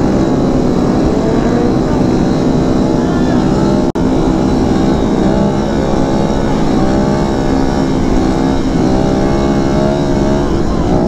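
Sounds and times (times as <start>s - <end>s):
motorcycle engine cruising: 0.0s - 11.0s
wind rumble on microphone: 0.0s - 11.0s.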